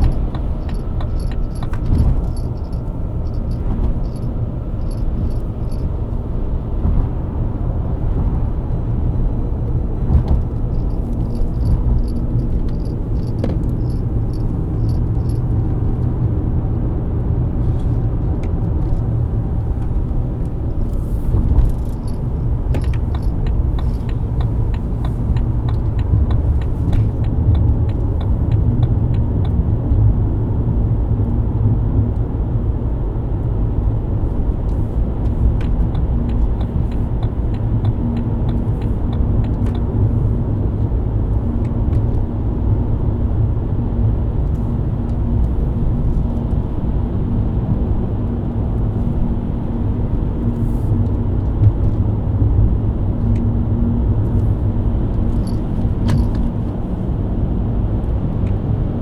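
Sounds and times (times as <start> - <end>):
car engine cruising: 0.0 - 59.0.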